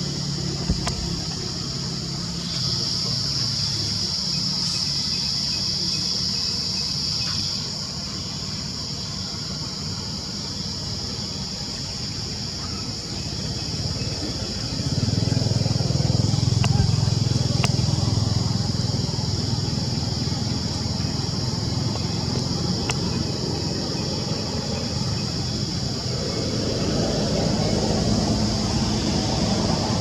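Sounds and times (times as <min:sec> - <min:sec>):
passing traffic hum: 0:00.0 - 0:05.9, 0:07.7 - 0:30.0
insects droning: 0:00.0 - 0:30.0.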